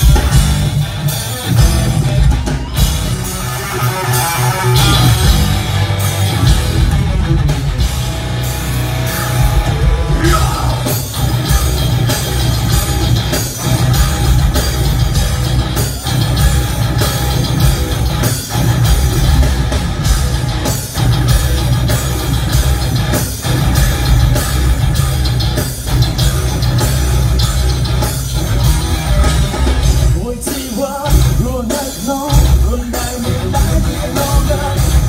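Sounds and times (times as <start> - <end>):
heavy rock band playing live: 0.0 - 35.0.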